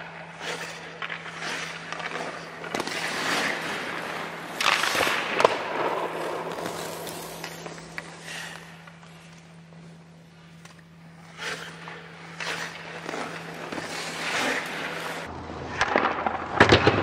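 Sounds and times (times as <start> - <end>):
skates scraping on ice: 0.0 - 16.8.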